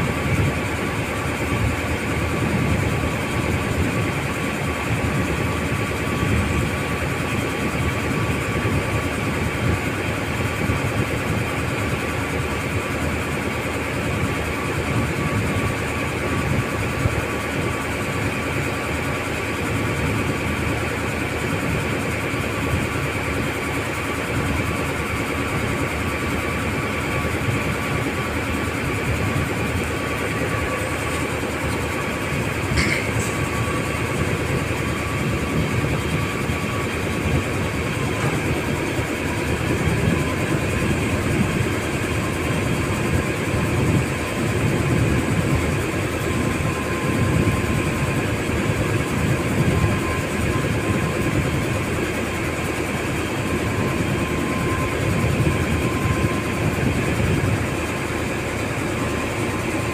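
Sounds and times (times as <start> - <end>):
heavy engine drone: 0.0 - 59.9.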